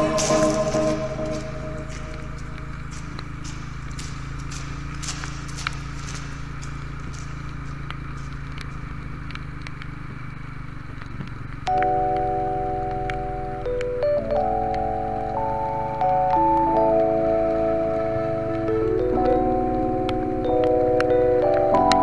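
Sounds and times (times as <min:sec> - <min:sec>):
sharp ticks and taps: 0:00.0 - 0:17.6, 0:18.3 - 0:22.0
vehicle engine droning: 0:00.0 - 0:22.0.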